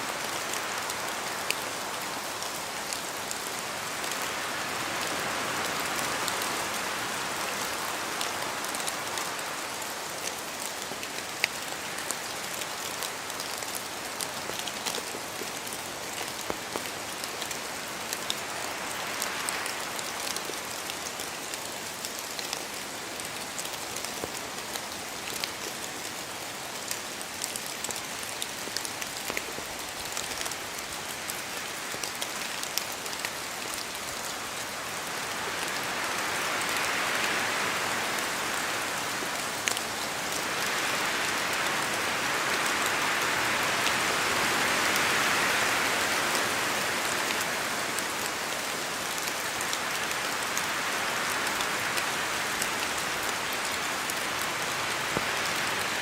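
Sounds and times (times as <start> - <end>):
rain pattering in forest: 0.0 - 56.0.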